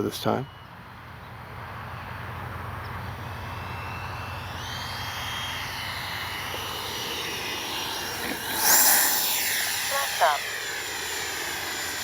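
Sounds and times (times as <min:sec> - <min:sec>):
electric jet fan whine: 0:00.0 - 0:12.0
high fan tone: 0:00.0 - 0:12.0.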